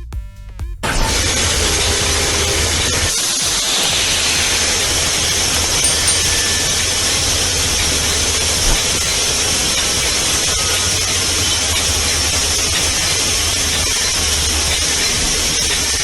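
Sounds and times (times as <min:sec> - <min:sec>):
low vehicle rumble: 0:00.8 - 0:16.0.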